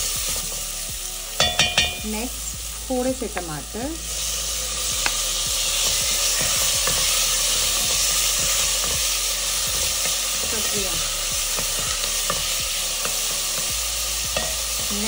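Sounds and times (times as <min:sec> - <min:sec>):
onions and tomatoes sizzling in oil: 0:00.0 - 0:15.0.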